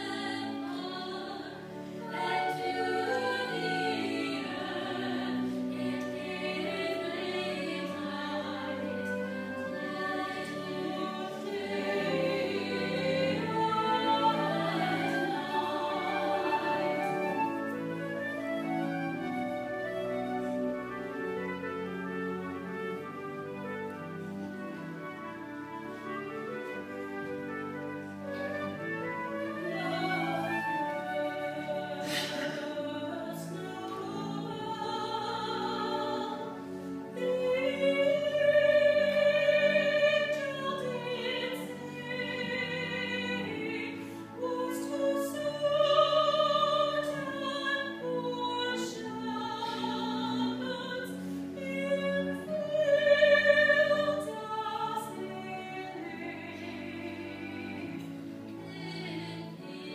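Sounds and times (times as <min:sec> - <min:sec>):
vocal duet singing with vibrato: 0:00.0 - 0:19.4, 0:29.4 - 0:59.9
cello: 0:00.0 - 0:59.9
flute: 0:00.0 - 0:59.9.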